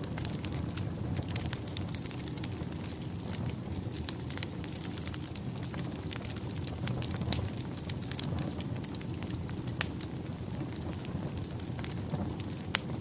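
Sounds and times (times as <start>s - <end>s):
campfire flame rushing: 0.0s - 13.0s
fire crackles and sharp pops: 0.0s - 13.0s.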